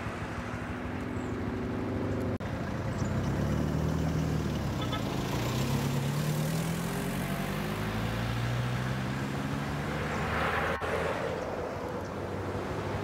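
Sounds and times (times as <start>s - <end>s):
tyre and road noise: 0.0s - 13.0s
vehicle engines humming: 0.0s - 13.0s.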